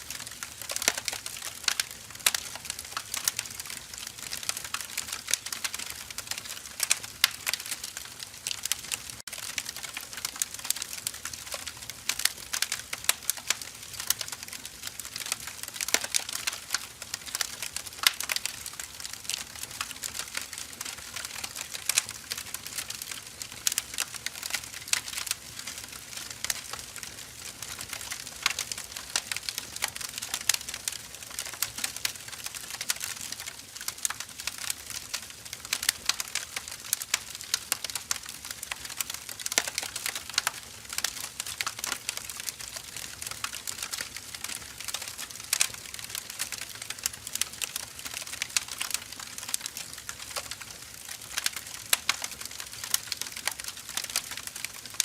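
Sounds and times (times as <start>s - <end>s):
firewood crackling: 0.0s - 55.0s.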